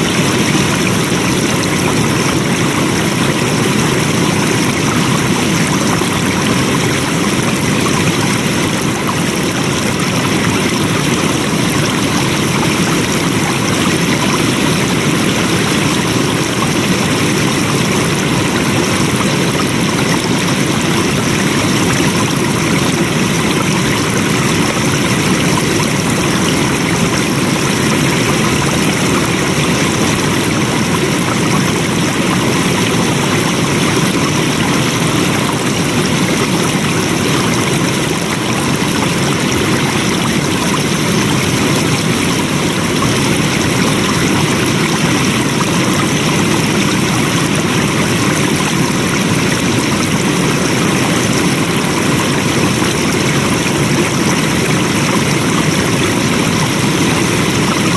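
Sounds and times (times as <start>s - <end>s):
flowing water rushing: 0.0s - 57.9s.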